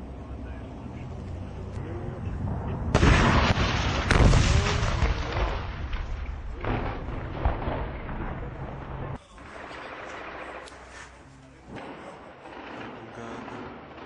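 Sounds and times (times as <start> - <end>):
battlefield blasts with echo: 2.4 - 14.0.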